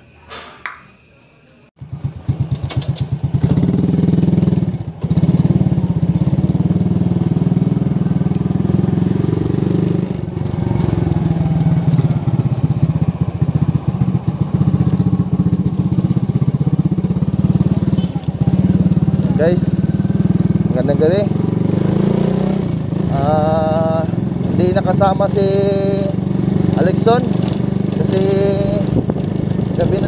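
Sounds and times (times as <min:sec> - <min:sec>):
motorcycle engine running: 0:01.8 - 0:30.0.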